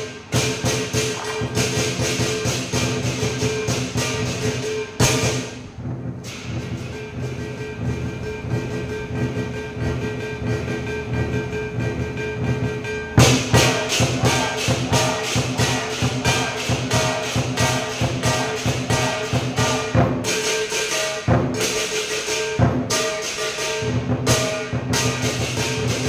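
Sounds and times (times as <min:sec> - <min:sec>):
big drum beating: 0:00.0 - 0:26.0
cymbals clashing: 0:00.0 - 0:26.0
gong: 0:00.0 - 0:26.0.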